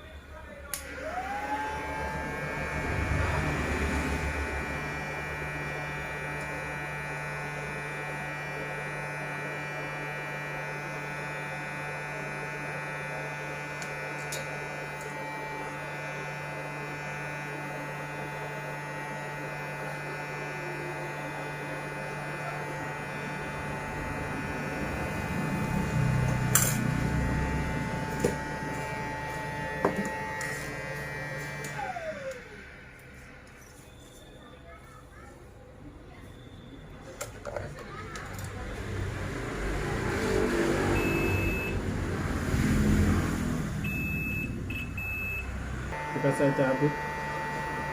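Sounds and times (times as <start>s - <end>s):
hot-air rework station blowing: 0.0s - 34.4s, 38.8s - 47.9s.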